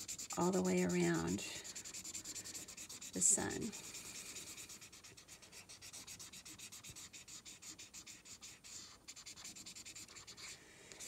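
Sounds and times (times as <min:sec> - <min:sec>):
felt-tip marker rubbing on paper: 0:00.0 - 0:10.6.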